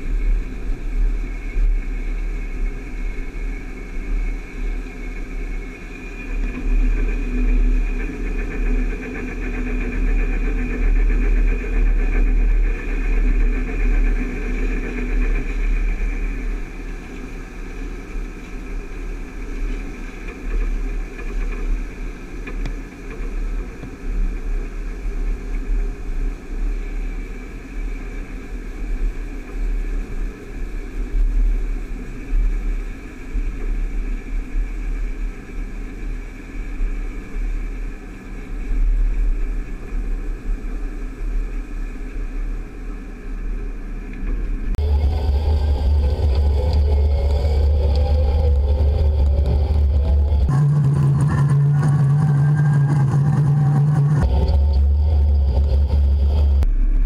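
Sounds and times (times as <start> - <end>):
combine harvester droning: 0.0 - 28.8, 36.2 - 57.0
low rumble: 0.0 - 57.0.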